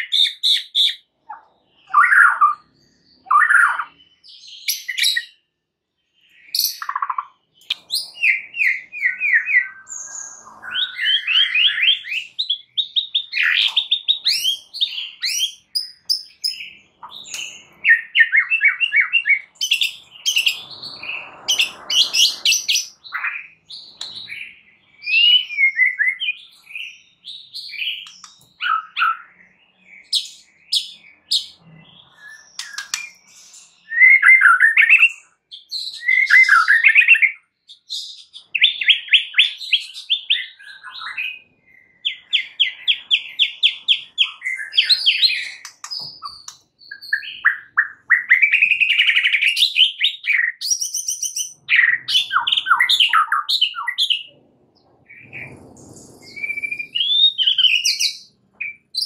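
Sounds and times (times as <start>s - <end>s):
songbird singing trills and whistles: 0.0s - 59.0s.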